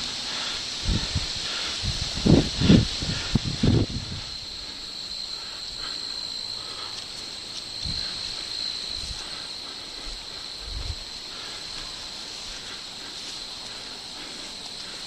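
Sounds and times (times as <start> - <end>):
crickets trilling: 0.0 - 15.0
light outdoor hiss: 0.0 - 15.0.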